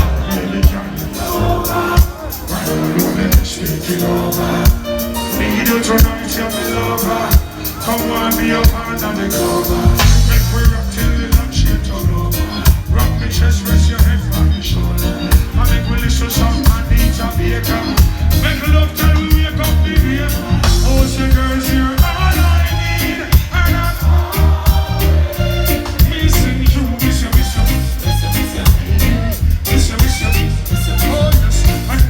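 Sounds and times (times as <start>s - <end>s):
pulsing bass line: 0.0s - 3.6s, 9.7s - 32.0s
live reggae band playing: 0.0s - 32.0s.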